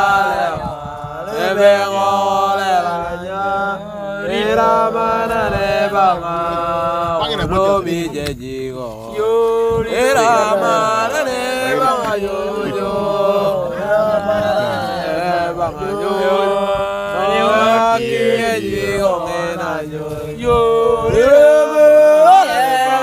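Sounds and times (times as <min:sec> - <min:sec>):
person chant-like singing: 0:00.0 - 0:23.0.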